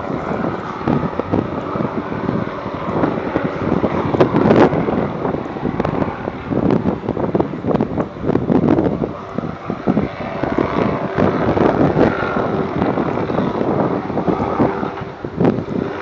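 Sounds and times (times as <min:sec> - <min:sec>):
distant helicopter flying: 0:00.0 - 0:16.0
wind buffeting microphone: 0:00.0 - 0:16.0.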